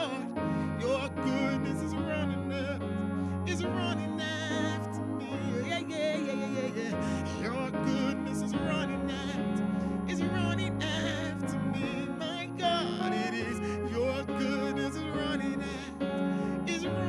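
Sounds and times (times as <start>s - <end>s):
sustained held chords: 0.0s - 17.0s.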